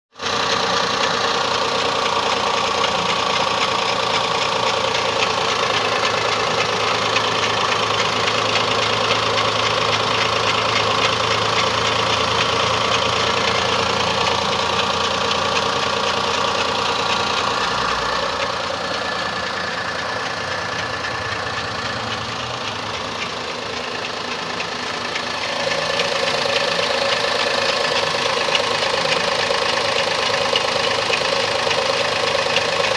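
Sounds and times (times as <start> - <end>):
car engine idling: 0.1 - 32.9
odd engine noise: 0.1 - 32.9.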